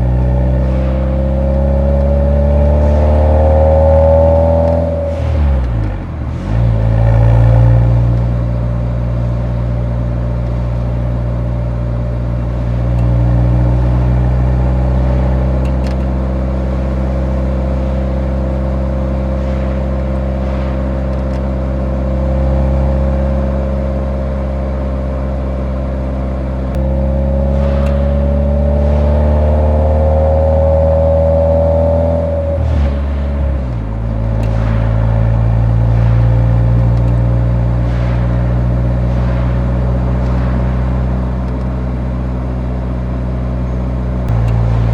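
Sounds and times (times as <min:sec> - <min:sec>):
car exhaust revving: 0:00.0 - 0:44.9.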